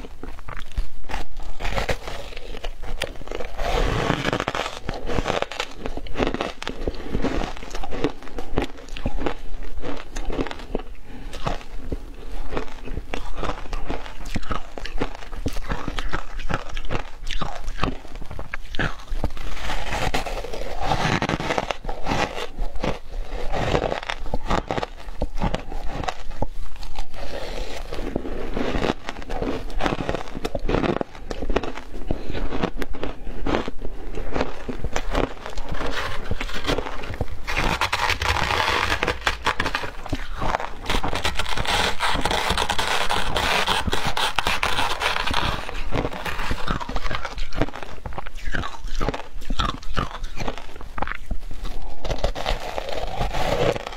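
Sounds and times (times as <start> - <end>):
crunching and chewing ice: 0.0 - 53.9.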